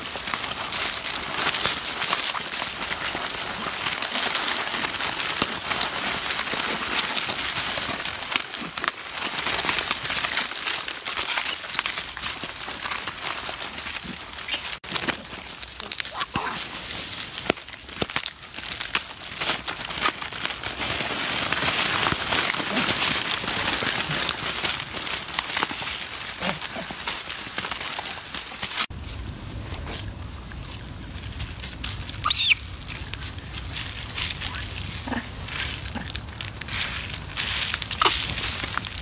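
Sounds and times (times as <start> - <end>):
plastic wrappers crinkling: 0.0 - 29.4, 30.4 - 39.0.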